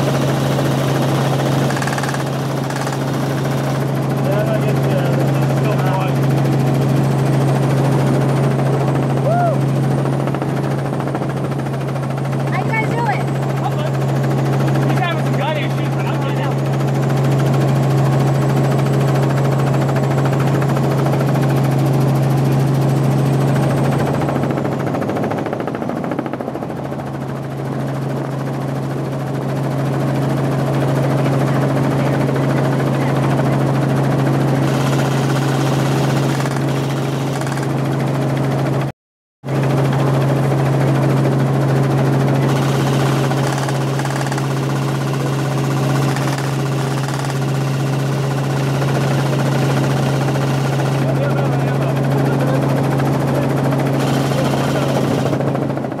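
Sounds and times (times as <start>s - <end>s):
helicopter engine and rotor hum: 0.0s - 56.0s.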